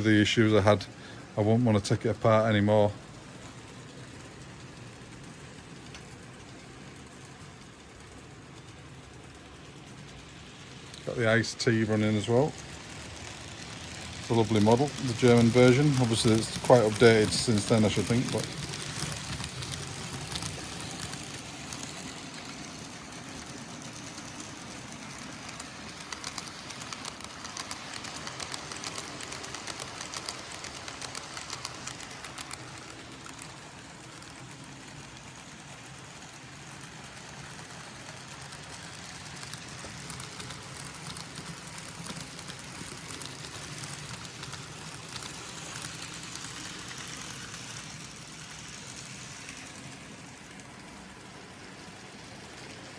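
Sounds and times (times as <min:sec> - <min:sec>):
wheels clicking over rail joints: 0:00.0 - 0:52.9
small motor whirring: 0:03.3 - 0:52.9.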